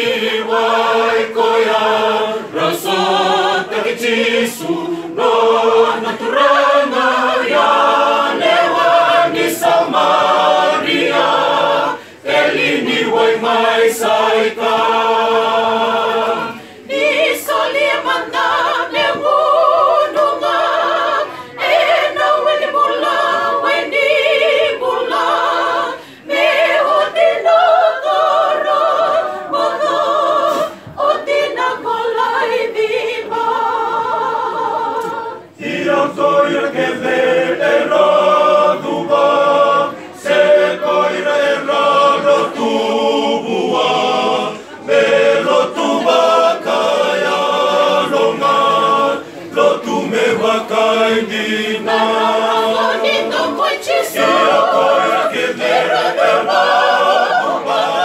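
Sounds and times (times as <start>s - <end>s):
mixed choir singing a hymn: 0.0s - 58.0s.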